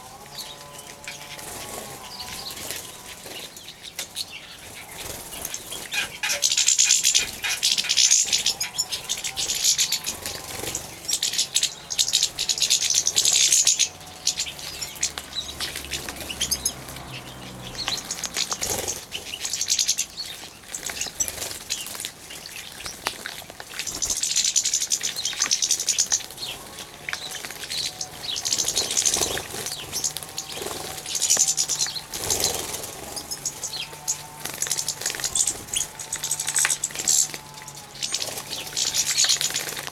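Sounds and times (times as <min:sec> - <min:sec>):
birds splashing in water: 0:00.0 - 0:39.9
wings fluttering: 0:00.0 - 0:39.9.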